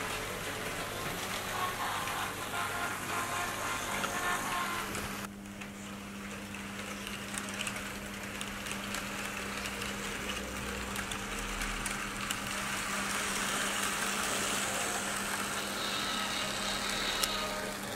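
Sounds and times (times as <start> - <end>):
model train rolling on rails: 0.0 - 17.9.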